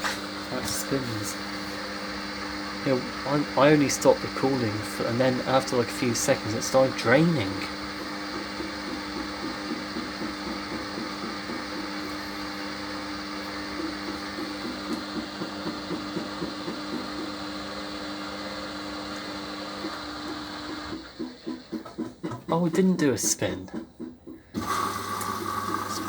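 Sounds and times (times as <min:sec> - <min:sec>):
drain pump humming: 0:00.0 - 0:26.0.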